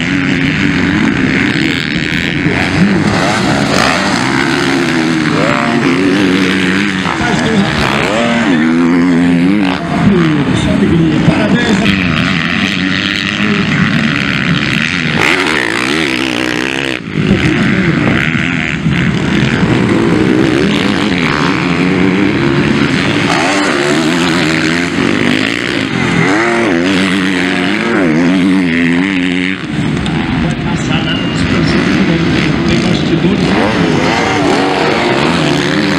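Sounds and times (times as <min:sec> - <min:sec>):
motocross engines revving: 0:00.0 - 0:35.9.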